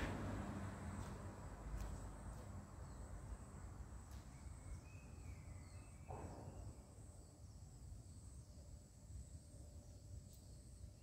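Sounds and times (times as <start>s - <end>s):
faint bird chirps: 1.9s - 11.0s.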